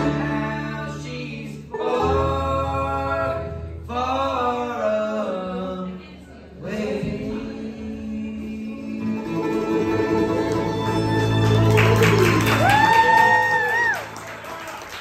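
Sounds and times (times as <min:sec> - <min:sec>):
bluegrass band playing: 0:00.0 - 0:06.1, 0:06.7 - 0:12.7
person singing: 0:00.0 - 0:12.7.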